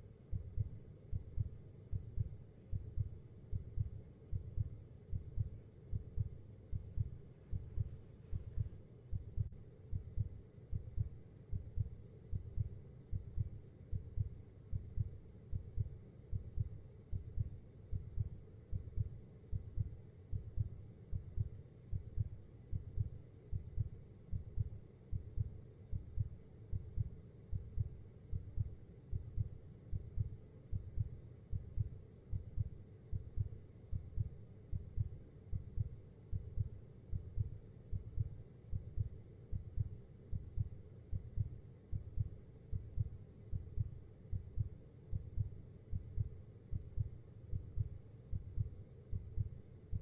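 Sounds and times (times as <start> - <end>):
heartbeat thumps: 0.3 - 50.0.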